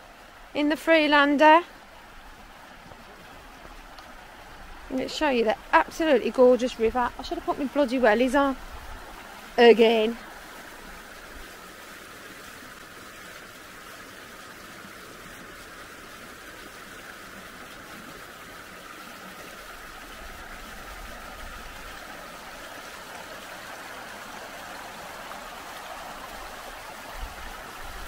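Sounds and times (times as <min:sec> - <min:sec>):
river babbling over stones: 0:00.0 - 0:28.0.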